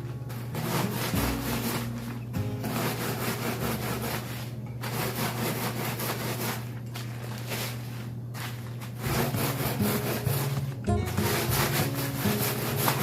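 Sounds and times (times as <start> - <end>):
rolling pin crushing crackers in bag: 0.0 - 13.0.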